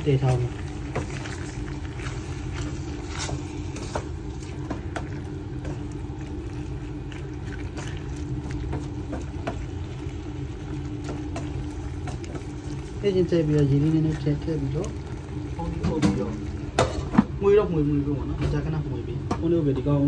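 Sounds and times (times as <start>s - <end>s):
meat frying pops: 0.0s - 18.0s
flame rumbling: 0.0s - 18.8s.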